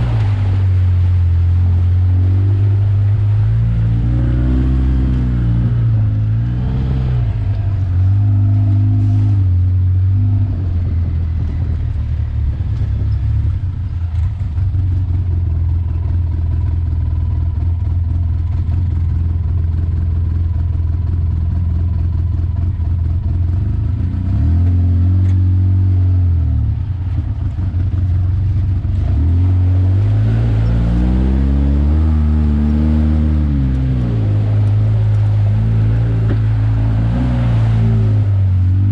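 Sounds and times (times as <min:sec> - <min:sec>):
off-road engine revving: 0:00.0 - 0:38.9.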